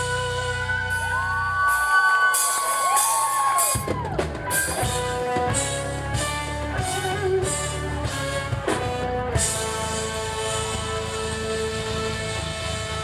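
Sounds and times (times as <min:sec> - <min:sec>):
bass: 0:00.0 - 0:13.0
electric guitar: 0:00.0 - 0:13.0
live band dance music: 0:00.0 - 0:13.0
drum kit beat: 0:02.4 - 0:13.0.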